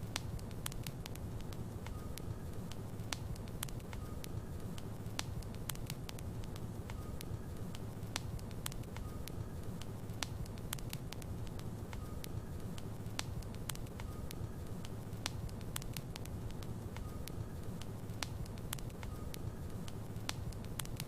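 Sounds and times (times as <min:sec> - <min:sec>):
fire crackling and popping: 0:00.0 - 0:21.0
low rumble of fire: 0:00.0 - 0:21.0.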